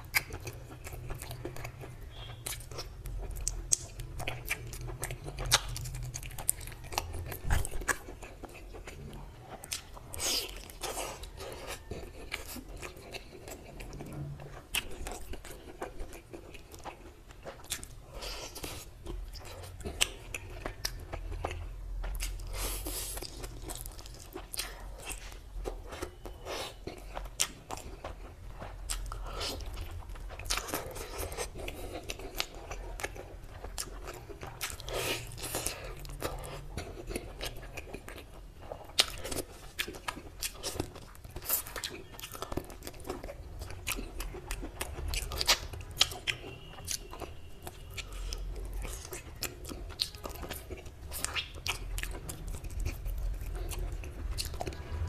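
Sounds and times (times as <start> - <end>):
chewing and biting meat: 0.0 - 55.0.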